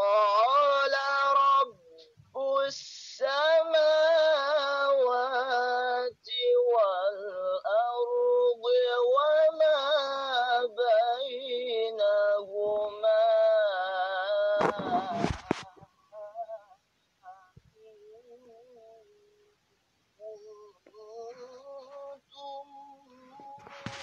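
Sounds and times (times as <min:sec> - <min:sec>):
high-pitched singing voice: 0:00.0 - 0:19.5, 0:20.2 - 0:24.0.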